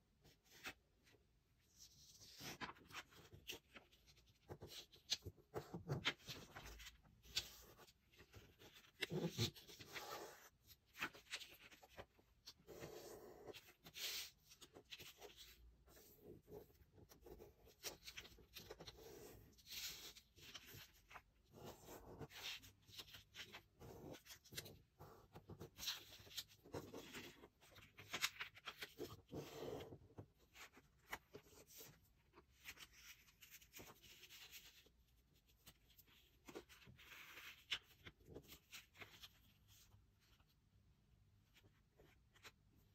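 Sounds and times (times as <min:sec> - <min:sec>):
paper rustling and crinkling: 0:00.5 - 0:40.5.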